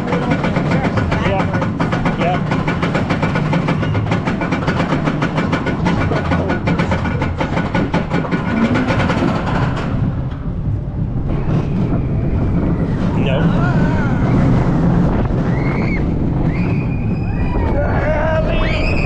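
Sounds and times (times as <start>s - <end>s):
roller coaster rumble: 0.0s - 19.0s
roller coaster track clicking: 0.0s - 19.0s.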